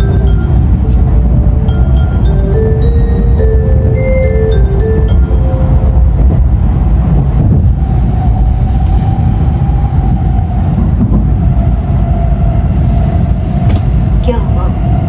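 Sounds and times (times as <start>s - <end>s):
train interior low rumble: 0.0s - 15.0s.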